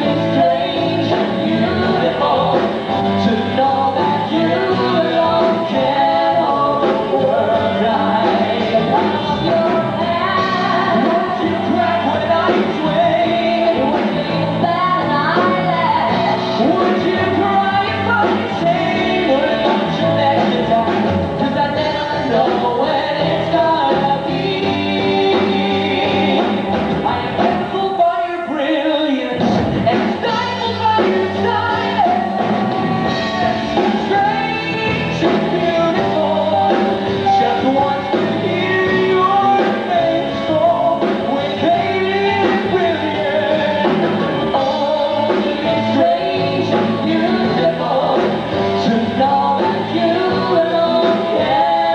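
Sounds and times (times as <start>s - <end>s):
man singing: 0.0s - 51.9s
rock band playing: 0.0s - 51.9s
woman singing: 0.0s - 51.9s.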